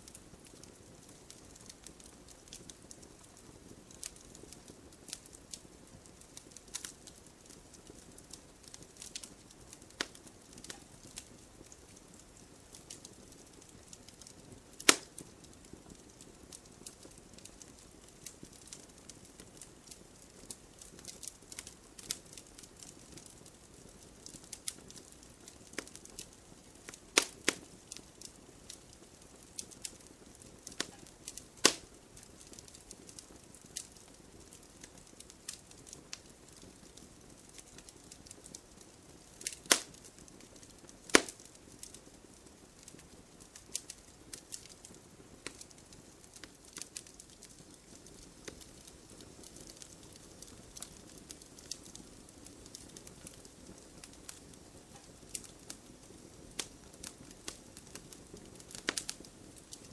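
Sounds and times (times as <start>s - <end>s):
burning wood pops and snaps: 0.0s - 59.9s
wood fire crackling: 0.0s - 59.9s.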